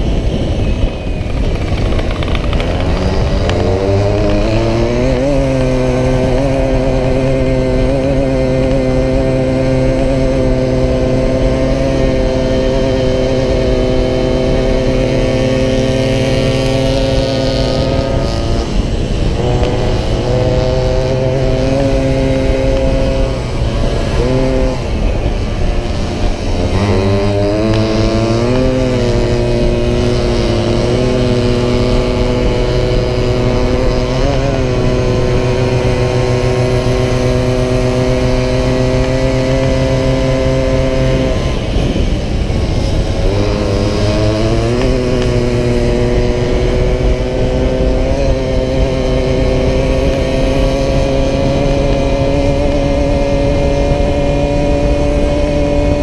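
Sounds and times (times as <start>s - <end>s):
two-stroke moped engine running hard: 0.0s - 56.0s
wind rush: 0.0s - 56.0s.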